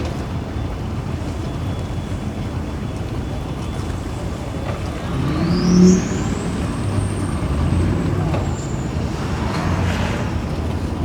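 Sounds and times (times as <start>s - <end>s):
boat engines running: 0.0s - 11.0s.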